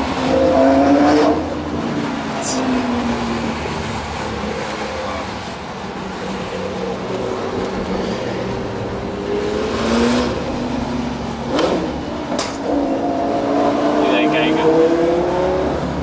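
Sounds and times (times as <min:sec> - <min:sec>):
sports car engine revving: 0:00.0 - 0:16.0.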